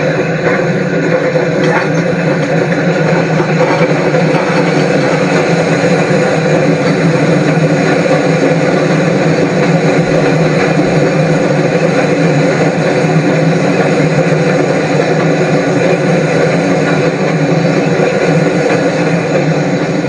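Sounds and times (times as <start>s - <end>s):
train running: 0.0s - 20.0s.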